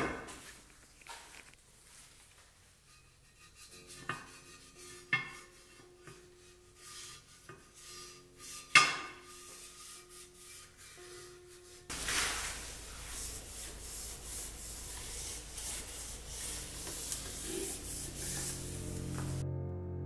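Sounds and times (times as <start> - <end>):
cloth rubbing on metal: 1.8 - 19.4.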